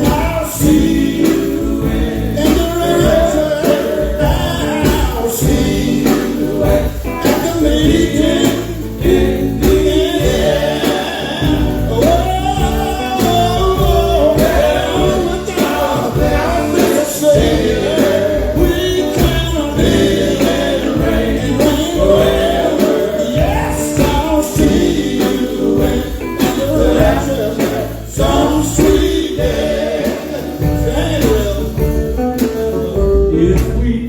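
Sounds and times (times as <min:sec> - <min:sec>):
instrumental backing: 0:00.0 - 0:34.0
men singing in harmony: 0:00.0 - 0:34.0.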